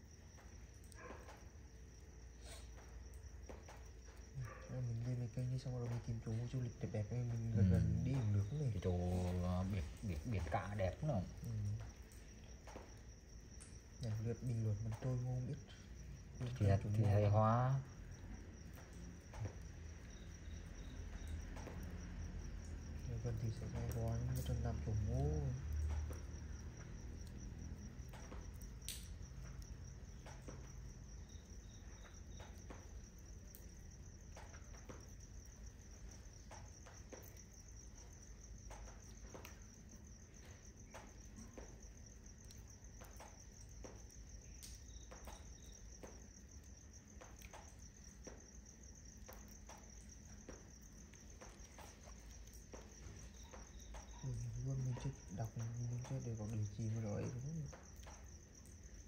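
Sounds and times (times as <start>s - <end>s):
crickets trilling: 0.0s - 59.0s
wood fire crackling: 0.0s - 59.0s.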